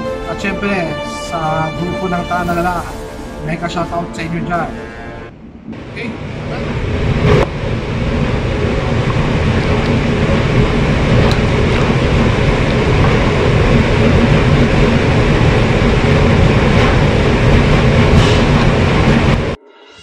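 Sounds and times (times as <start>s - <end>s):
low rumble: 1.6s - 19.6s.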